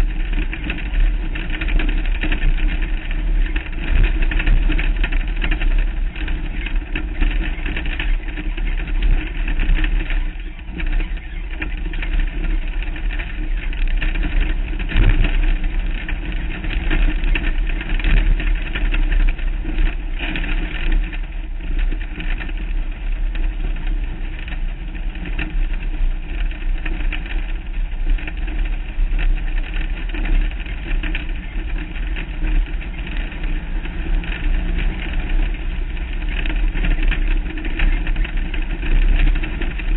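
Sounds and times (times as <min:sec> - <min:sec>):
chassis jolts over bumps: 0:00.0 - 0:39.9
rumble over dirt track: 0:00.0 - 0:39.9.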